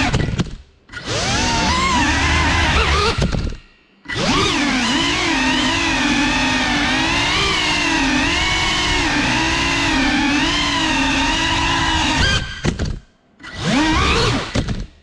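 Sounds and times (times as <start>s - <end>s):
drone motors and propellers whining: 0.9s - 12.8s, 13.4s - 14.8s.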